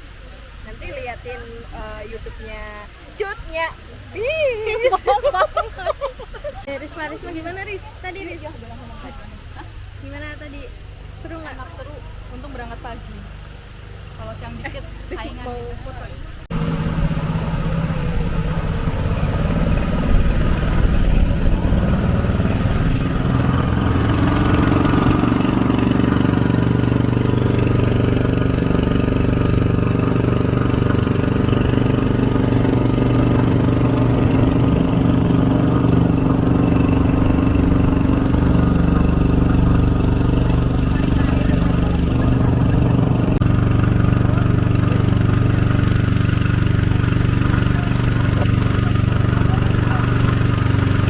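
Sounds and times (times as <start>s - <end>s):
engine running steadily: 0.0s - 51.0s.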